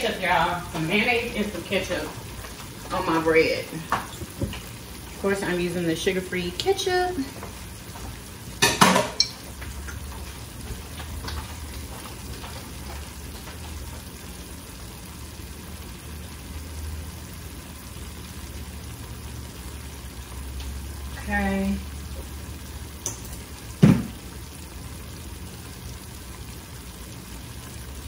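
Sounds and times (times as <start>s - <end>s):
food sizzling in a skillet: 0.0s - 28.0s.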